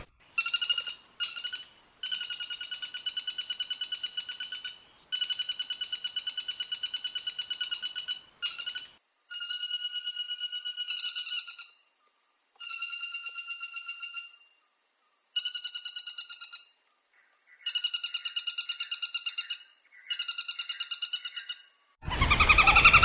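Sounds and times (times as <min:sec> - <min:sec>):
woodpecker rattling call: 0:00.0 - 0:11.8, 0:15.4 - 0:23.0.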